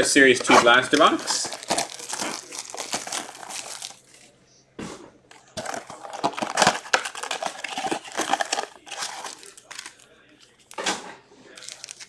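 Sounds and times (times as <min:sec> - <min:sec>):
plastic shrink wrap crinkling: 0:00.0 - 0:04.3, 0:05.3 - 0:10.8, 0:11.5 - 0:12.0.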